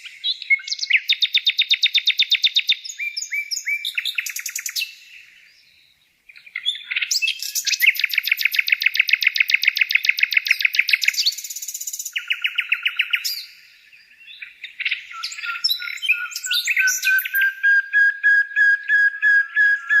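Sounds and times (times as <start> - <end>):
songbird trilling: 0.0 - 20.0.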